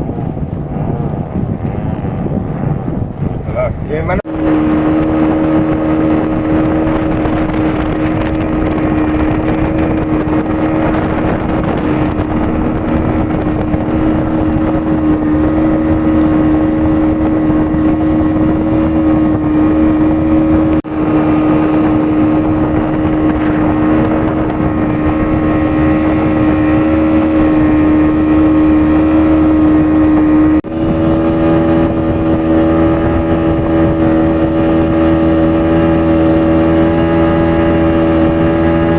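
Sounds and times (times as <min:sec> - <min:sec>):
engine humming steadily: 0:03.1 - 0:38.9.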